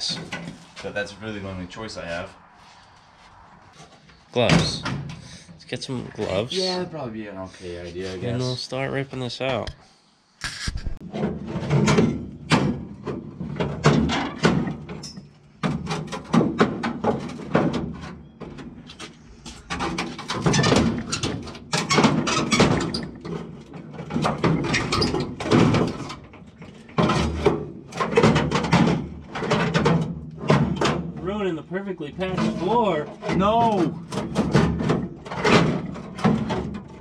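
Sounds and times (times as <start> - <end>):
metal banging and scraping: 0.0 - 5.6, 11.0 - 37.0.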